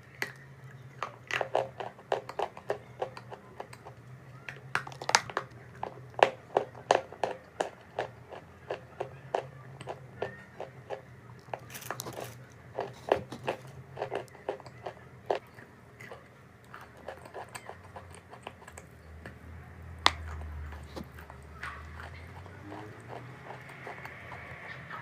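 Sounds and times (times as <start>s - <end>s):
person chewing chalk: 4.7s - 25.0s.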